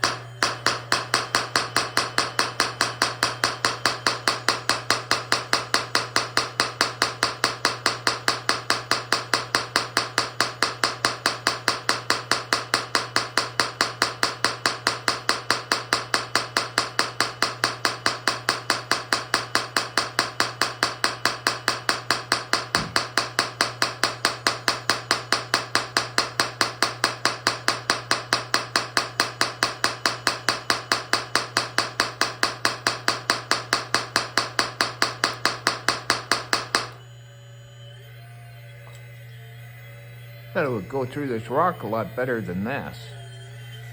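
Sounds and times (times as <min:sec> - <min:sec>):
hydraulic hammer pounding rock: 0:00.0 - 0:37.0.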